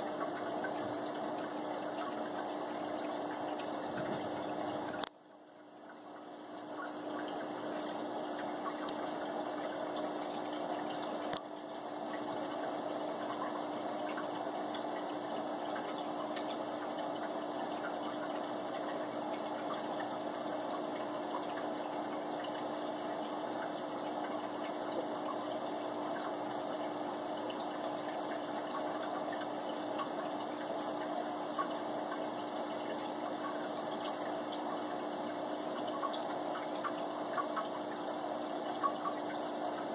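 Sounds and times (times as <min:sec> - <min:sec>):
aquarium water bubbling: 0:00.0 - 0:39.9
low pump hum: 0:00.0 - 0:39.9.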